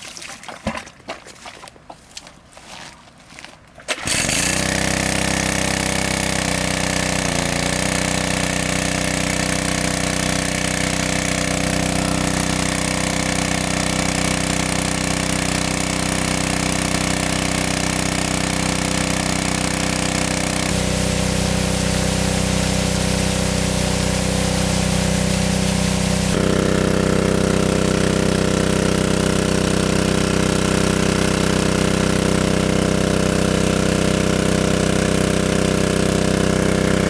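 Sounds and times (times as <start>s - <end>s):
small engine running: 4.0s - 37.0s.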